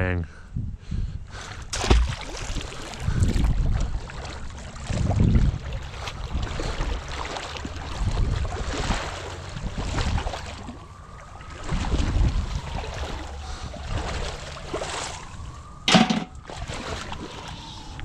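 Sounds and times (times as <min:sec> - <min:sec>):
waders sloshing through water: 0:01.4 - 0:18.0.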